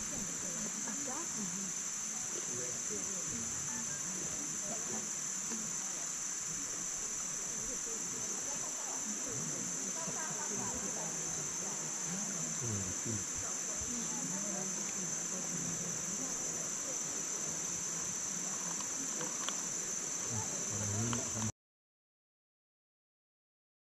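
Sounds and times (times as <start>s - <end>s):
insects droning: 0.0s - 21.5s.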